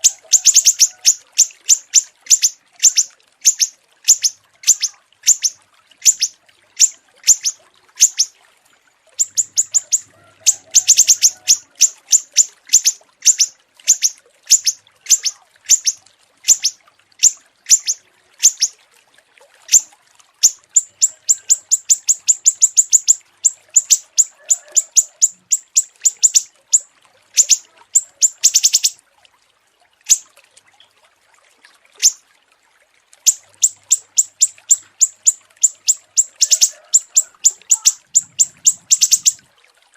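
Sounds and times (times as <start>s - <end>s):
small songbird chirping: 0.0s - 8.3s, 9.2s - 18.7s, 20.4s - 29.0s, 33.3s - 39.4s.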